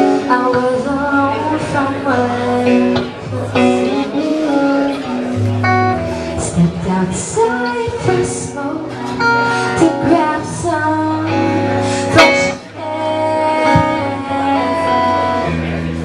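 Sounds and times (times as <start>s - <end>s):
live band music: 0.0s - 16.0s
woman singing lead: 0.0s - 16.0s.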